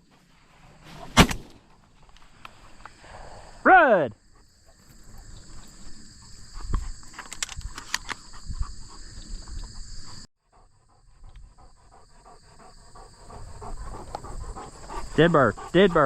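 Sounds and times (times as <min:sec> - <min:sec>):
field insects chorus: 0:00.0 - 0:16.0.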